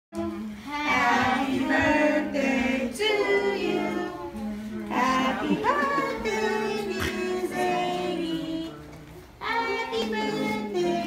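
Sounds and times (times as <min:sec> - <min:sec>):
children and women singing: 0:00.2 - 0:11.0.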